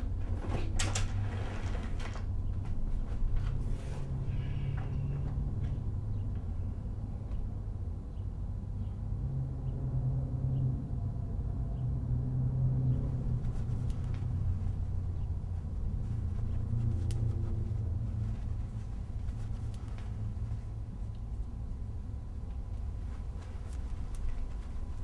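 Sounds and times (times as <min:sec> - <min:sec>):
distant city traffic rumble: 0:00.0 - 0:25.0.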